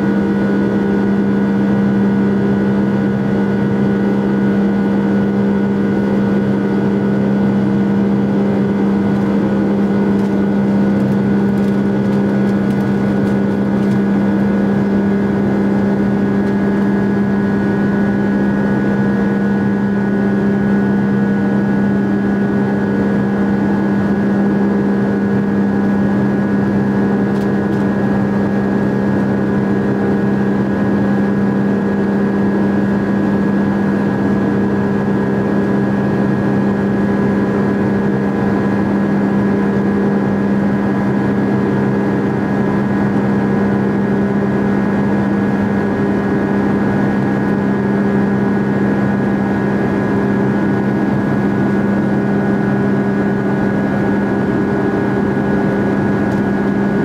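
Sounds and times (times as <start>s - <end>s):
jet engines droning in cabin: 0.0s - 57.0s.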